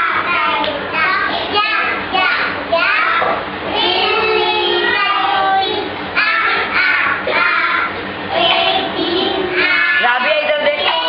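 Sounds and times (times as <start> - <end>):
young children singing: 0.0 - 10.1, 10.8 - 11.0.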